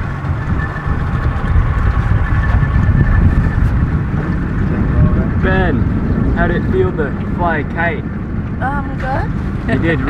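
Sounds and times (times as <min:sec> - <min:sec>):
boat motor running: 0:00.0 - 0:10.0
wind rumbling on microphone: 0:00.0 - 0:10.0.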